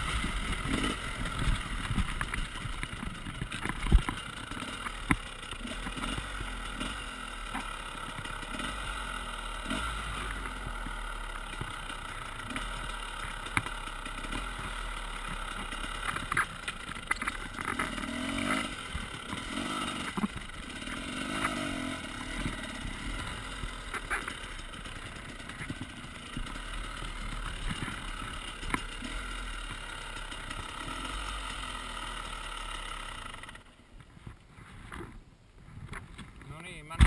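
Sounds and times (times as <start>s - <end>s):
knocks and clatter from motorcycle: 0.0s - 9.0s, 9.6s - 31.2s
motorcycle engine revving: 0.0s - 33.7s.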